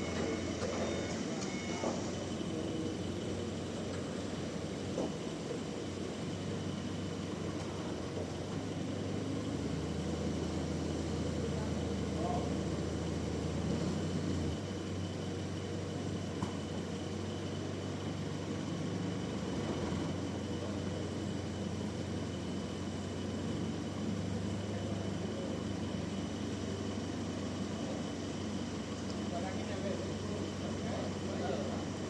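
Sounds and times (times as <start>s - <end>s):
sawmill engine hum and whine: 0.0s - 32.0s.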